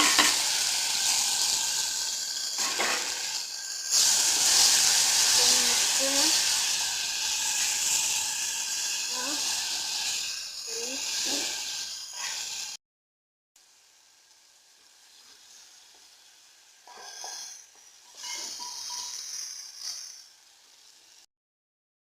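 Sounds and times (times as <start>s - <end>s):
food sizzling in a pot: 0.0s - 12.8s, 13.6s - 21.3s.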